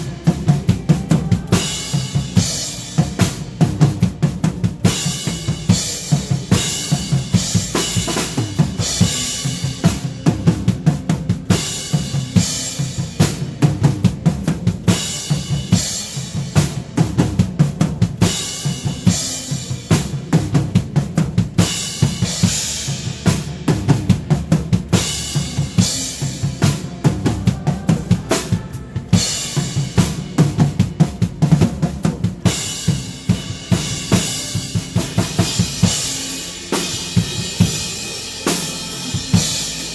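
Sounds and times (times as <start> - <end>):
cymbals washing: 0.0 - 39.9
drum kit playing a beat: 0.0 - 39.9.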